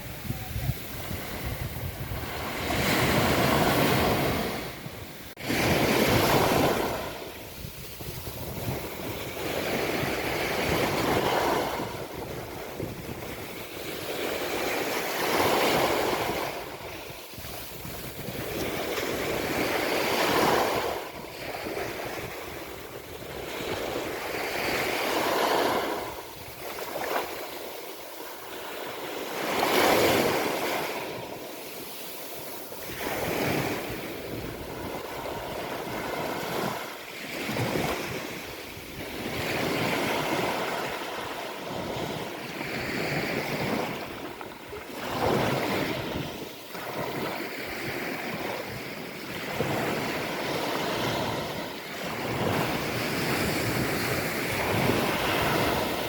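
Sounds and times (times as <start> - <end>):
sea waves breaking on beach: 0.0 - 56.0.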